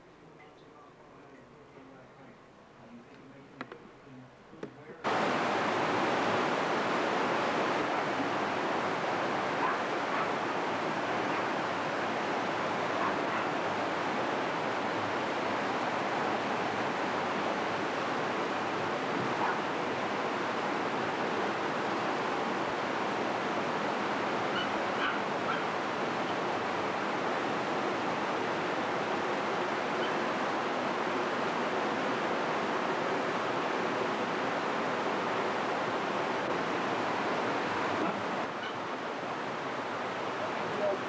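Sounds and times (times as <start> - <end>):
floodwater rushing: 4.6 - 41.0.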